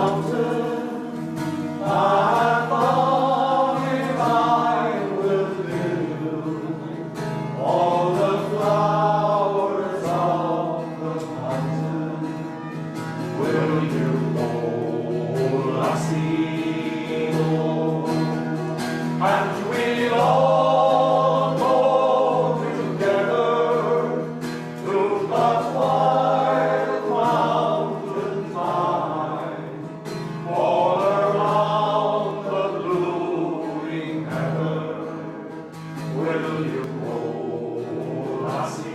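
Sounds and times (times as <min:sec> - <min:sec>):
choir singing slow song: 0:00.0 - 0:38.9.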